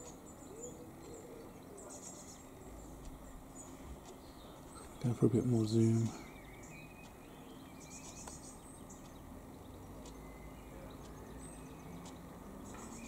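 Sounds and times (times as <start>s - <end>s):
faint steady hum: 0.0s - 13.0s
small birds chirping: 0.0s - 13.0s.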